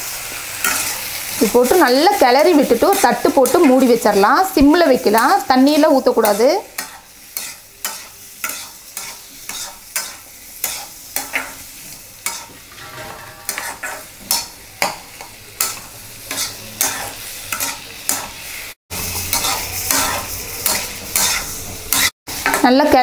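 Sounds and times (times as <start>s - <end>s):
light sizzle of frying: 0.0s - 23.0s
spatula scraping a pan: 0.6s - 4.0s, 5.2s - 22.6s.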